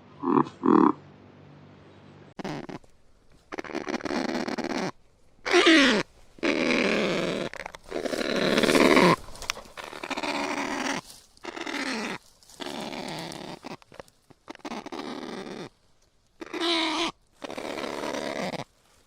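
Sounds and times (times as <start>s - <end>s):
bird harsh rasping calls: 2.4s - 15.7s, 16.4s - 18.6s.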